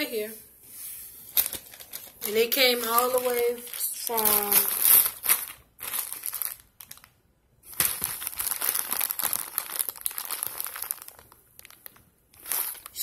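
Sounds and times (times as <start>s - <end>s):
packaging crinkling: 1.3s - 13.0s.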